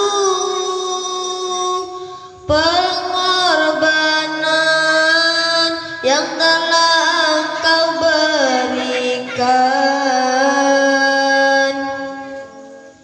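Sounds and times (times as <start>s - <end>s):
child chanting sung poem: 0.0s - 13.0s.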